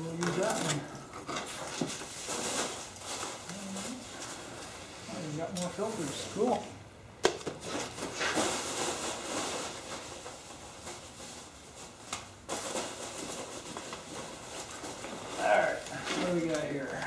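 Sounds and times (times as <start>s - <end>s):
packing material rustling: 0.0s - 6.6s, 7.4s - 17.0s.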